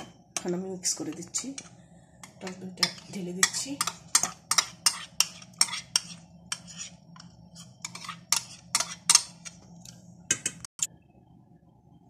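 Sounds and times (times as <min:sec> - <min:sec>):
metal spatula scraping saucepan: 0:00.0 - 0:10.0.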